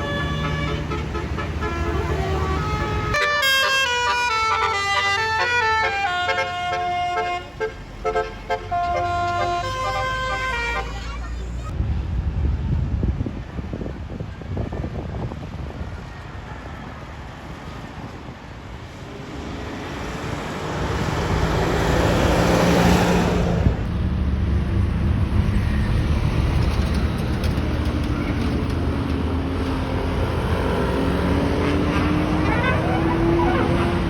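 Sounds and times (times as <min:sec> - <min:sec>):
bus passing close: 0:00.0 - 0:34.0.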